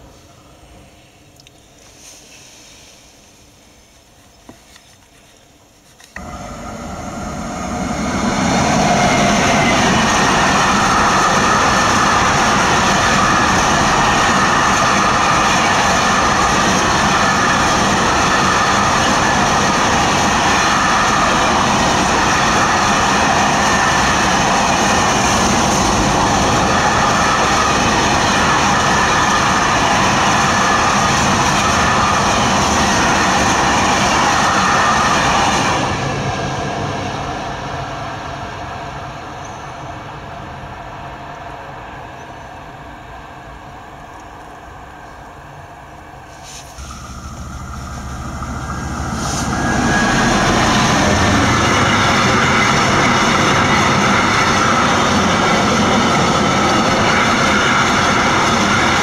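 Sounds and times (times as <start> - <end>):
freight train wheels rolling on rails: 0.0 - 59.0.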